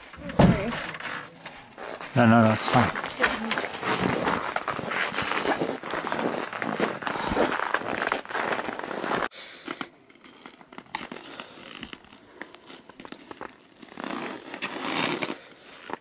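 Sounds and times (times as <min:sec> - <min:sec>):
snow crunching under ski boots: 0:01.3 - 0:09.3, 0:10.2 - 0:16.0.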